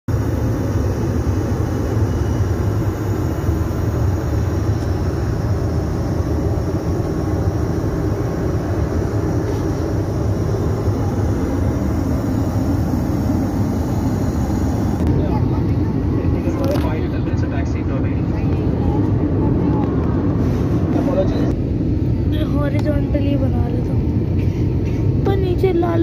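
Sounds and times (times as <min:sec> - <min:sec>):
airliner cabin rumble: 0:00.1 - 0:26.0.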